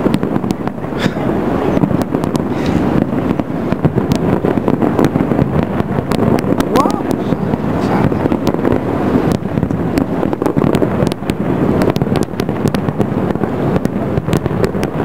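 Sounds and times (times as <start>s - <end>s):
fireworks bursting: 0.0s - 15.0s
fireworks pops and crackles: 0.0s - 15.0s.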